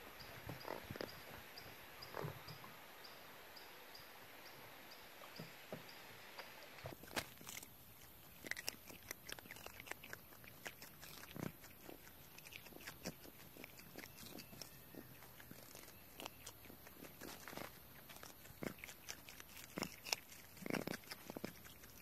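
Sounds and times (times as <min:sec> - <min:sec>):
lemurs eating crunches: 0:00.2 - 0:02.6, 0:06.4 - 0:22.0.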